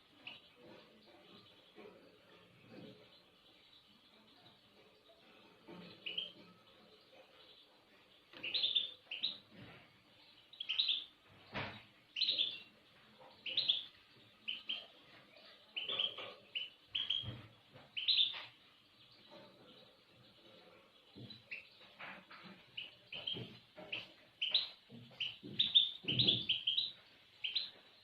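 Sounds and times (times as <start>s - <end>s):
cage birds chirping: 0.0s - 28.0s.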